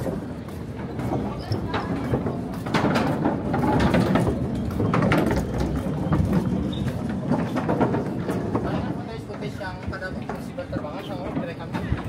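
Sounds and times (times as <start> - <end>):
footsteps on plank deck: 0.0 - 12.0.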